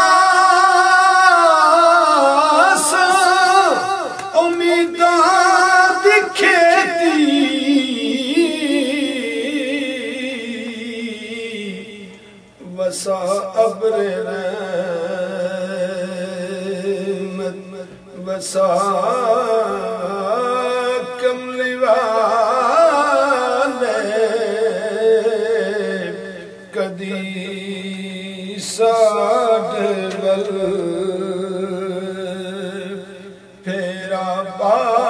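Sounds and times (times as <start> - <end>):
man singing in chant-like style: 0.0 - 35.0.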